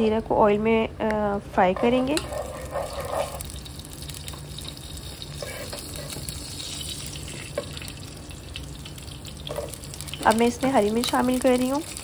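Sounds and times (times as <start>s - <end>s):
seeds sizzling in hot oil: 1.9s - 12.0s.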